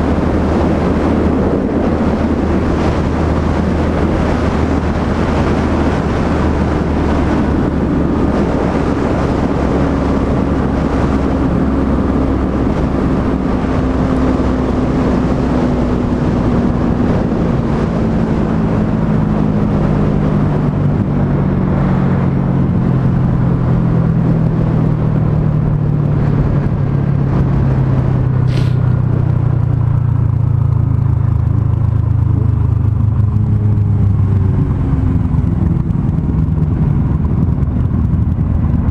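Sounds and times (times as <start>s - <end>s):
motorcycle engine decelerating: 0.0s - 38.9s
wind rush: 0.0s - 38.9s.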